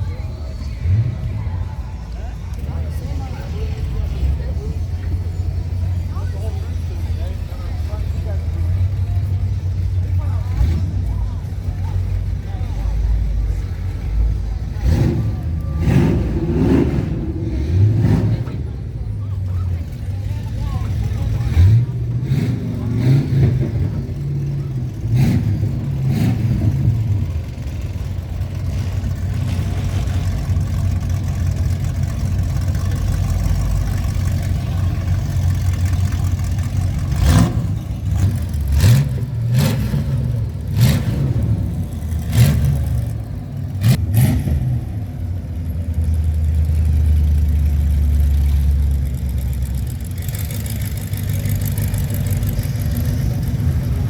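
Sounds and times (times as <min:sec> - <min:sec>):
car engines rumbling and revving: 0:00.0 - 0:54.0.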